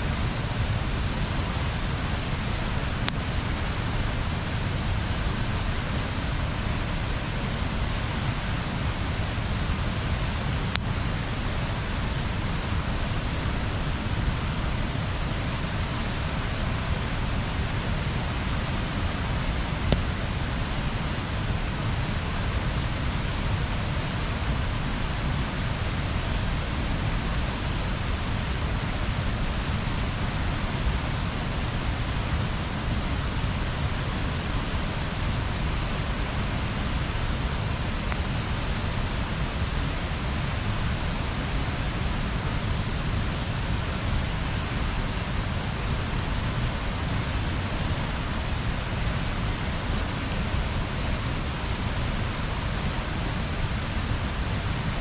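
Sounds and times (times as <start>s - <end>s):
bonfire burning: 0.2s - 54.2s.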